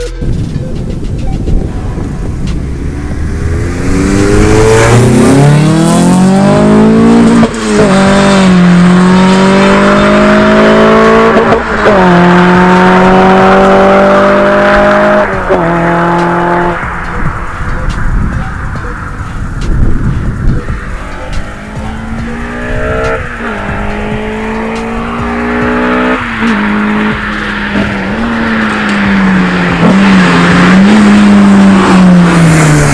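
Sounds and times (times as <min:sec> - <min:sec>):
car engine accelerating and shifting: 0:00.0 - 0:32.9.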